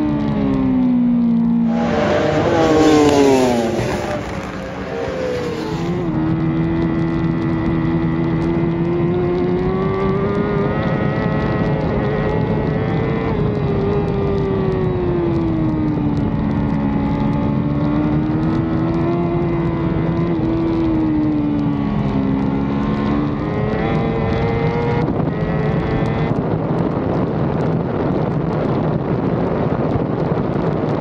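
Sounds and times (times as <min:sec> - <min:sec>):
racing motorbike engine: 0:00.1 - 0:27.5
wind noise: 0:01.6 - 0:31.0.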